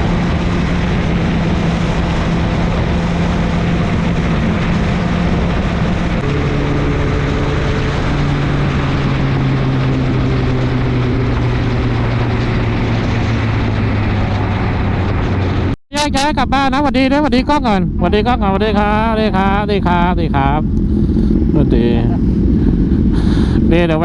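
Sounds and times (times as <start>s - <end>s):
motorcycle engine running: 0.0s - 24.0s
wind rush: 0.0s - 24.0s.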